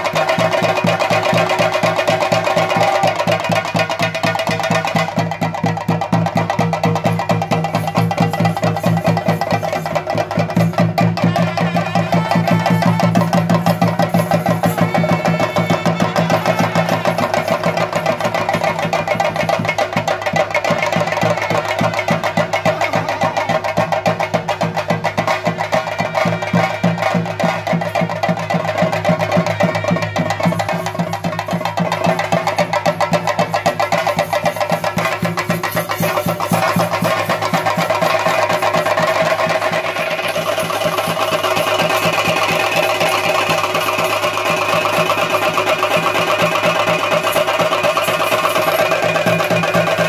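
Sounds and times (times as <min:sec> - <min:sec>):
clashing hand cymbals: 0:00.0 - 0:50.0
fast drumming: 0:00.0 - 0:50.0.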